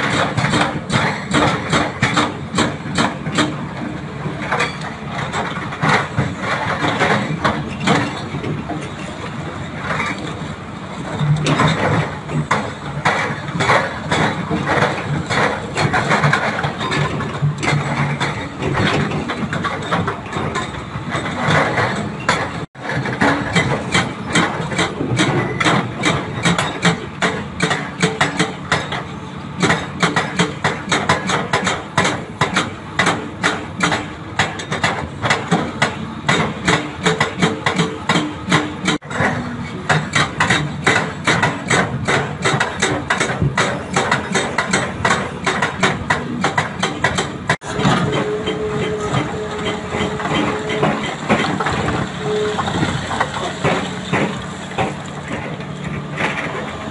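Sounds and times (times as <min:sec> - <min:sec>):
diesel engines running: 0:00.0 - 0:56.9
hydraulic breakers pounding rock: 0:00.0 - 0:56.9.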